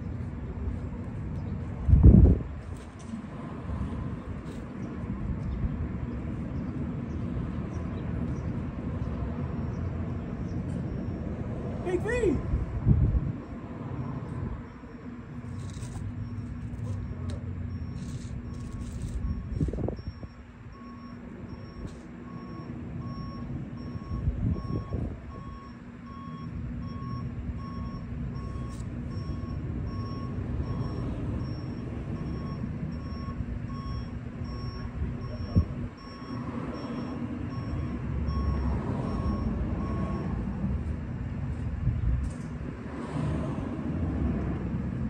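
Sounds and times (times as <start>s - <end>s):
low engine rumble: 0.0s - 45.0s
vehicle reversing alarm beeping: 3.7s - 42.5s.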